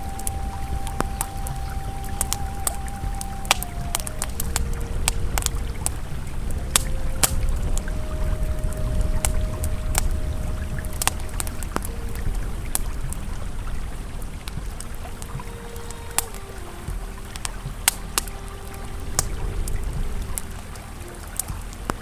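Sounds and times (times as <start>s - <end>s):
campfire crackling and popping: 0.0s - 22.0s
river flowing: 0.0s - 22.0s.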